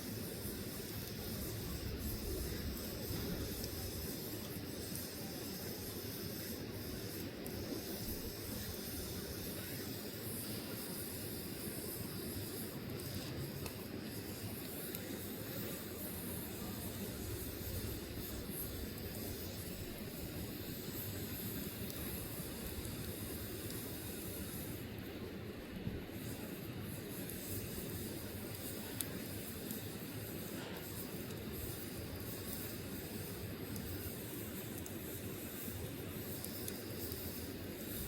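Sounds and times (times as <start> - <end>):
log fire crackling: 0.0 - 38.0.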